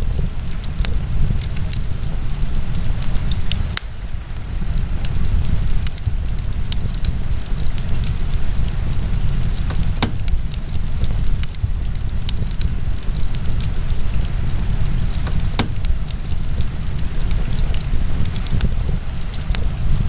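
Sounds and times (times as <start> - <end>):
fire crackling and popping: 0.0 - 20.0
fire low rumble: 0.0 - 20.0
loud fire cracks: 0.0 - 20.0.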